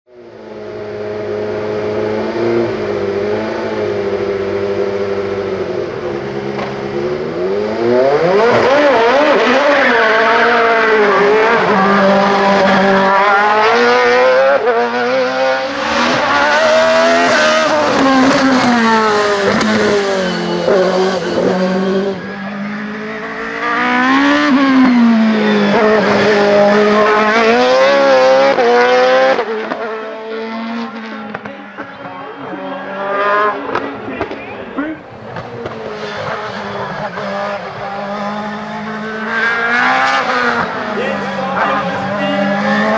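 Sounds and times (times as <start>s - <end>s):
race car engine revving: 0.2s - 42.9s.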